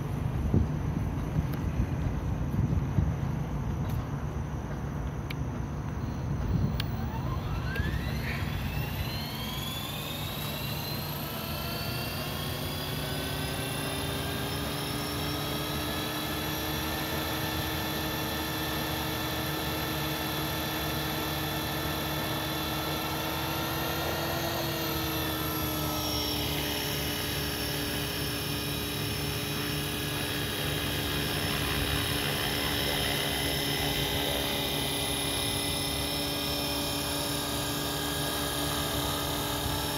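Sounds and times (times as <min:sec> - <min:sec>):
rc helicopter rotor whine: 0:00.0 - 0:39.9.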